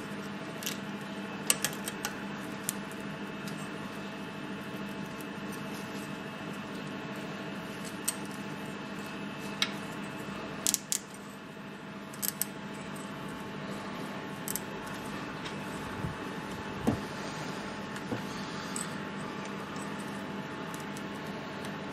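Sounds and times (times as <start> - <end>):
steady background hum: 0.0 - 21.9.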